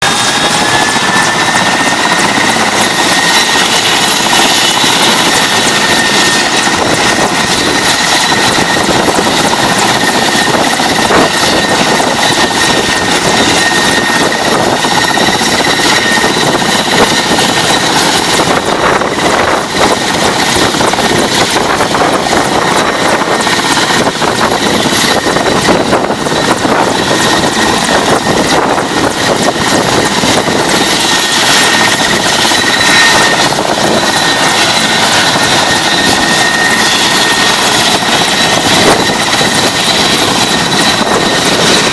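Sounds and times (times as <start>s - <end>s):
helicopter engine and rotor: 0.0s - 41.9s
high whine: 0.0s - 41.9s.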